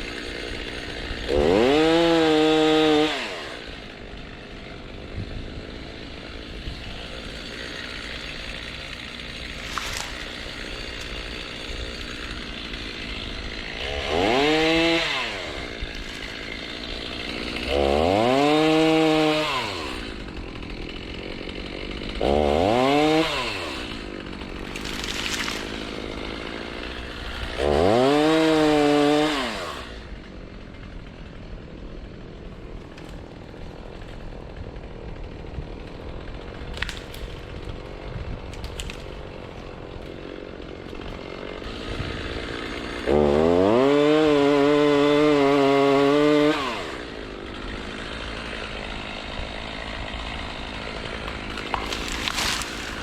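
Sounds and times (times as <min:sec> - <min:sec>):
chainsaw revving: 0:00.0 - 0:53.0.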